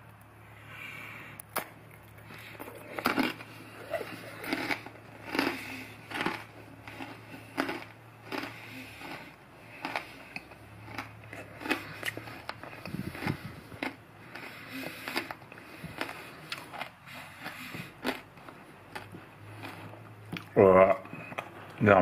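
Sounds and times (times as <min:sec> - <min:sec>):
person chewing crunchy toffee: 0:01.4 - 0:21.8
sharp crunches and crackles: 0:01.5 - 0:20.0.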